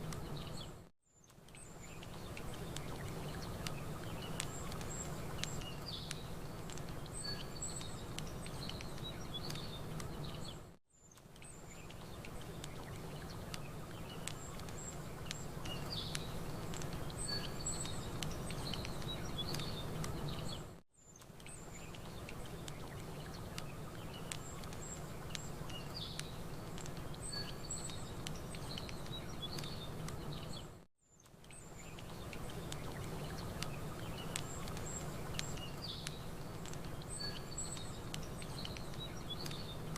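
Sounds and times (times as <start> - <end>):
campfire crackling: 0.0 - 39.9
small birds chirping: 0.0 - 39.9.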